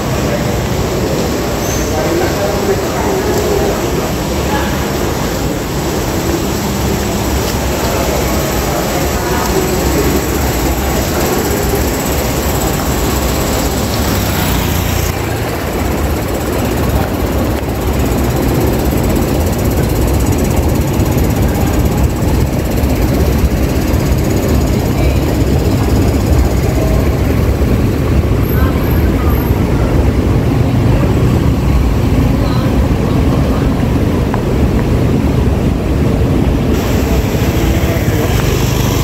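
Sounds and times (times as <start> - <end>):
low rumble of vehicle engines: 0.0 - 39.0
traffic hiss: 0.0 - 39.0.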